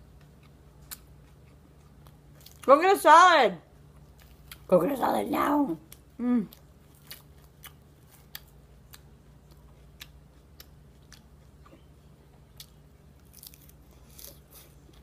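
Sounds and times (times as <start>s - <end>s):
chewing crunchy salad: 0.0s - 2.8s, 3.7s - 5.1s, 5.8s - 15.0s.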